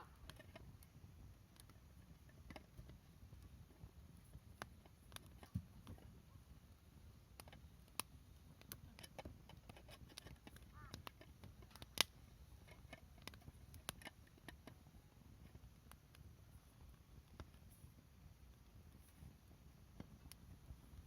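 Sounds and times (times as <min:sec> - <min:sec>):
fire pops: 0:00.0 - 0:21.0
low rumble of burning: 0:00.0 - 0:21.0
wood fire crackling: 0:00.0 - 0:21.0.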